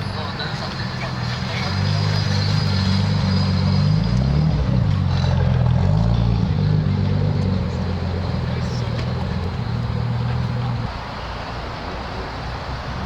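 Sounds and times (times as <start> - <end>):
car engine and exhaust: 0.0 - 13.0.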